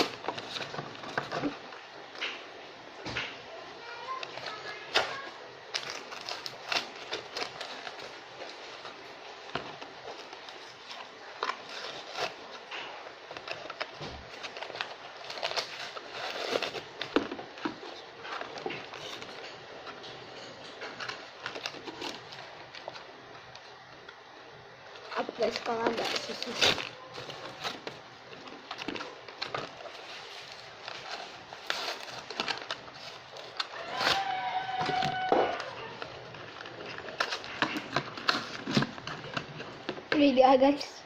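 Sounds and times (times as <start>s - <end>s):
plastic blister pack crinkling: 0.0s - 40.9s.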